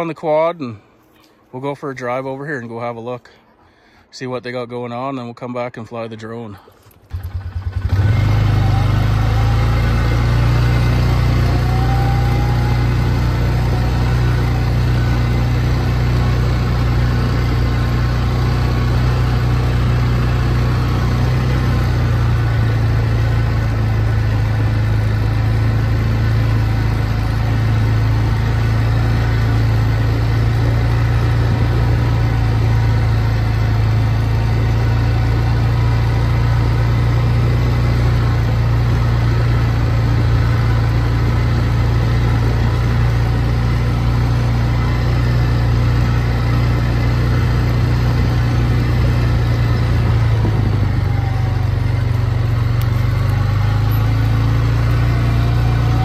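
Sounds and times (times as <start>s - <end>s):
quad engine running: 7.1s - 56.0s.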